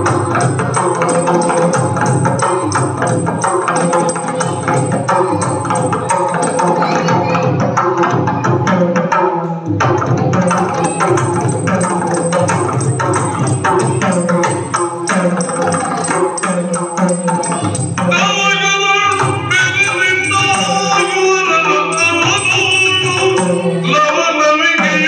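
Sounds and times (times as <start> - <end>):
barrel drums played fast: 0.0 - 7.7, 10.3 - 23.9.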